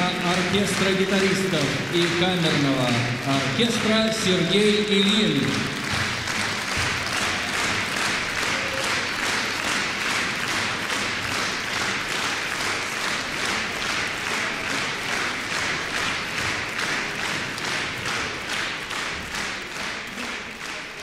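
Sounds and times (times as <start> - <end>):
audience clapping in rhythm: 0.0 - 21.0.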